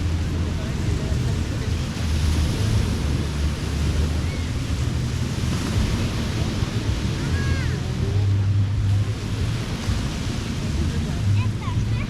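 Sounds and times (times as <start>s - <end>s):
ocean surf on a sandy beach: 0.0s - 12.0s
wind buffeting the microphone: 0.0s - 12.0s.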